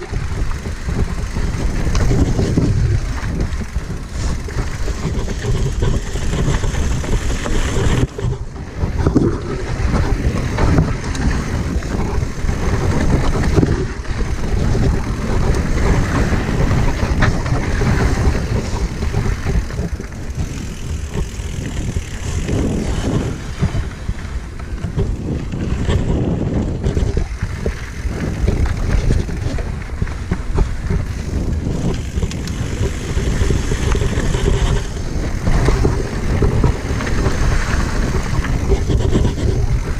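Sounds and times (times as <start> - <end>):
mountain bike rattling on rough trail: 0.0 - 39.9
wind buffeting microphone: 0.0 - 39.9.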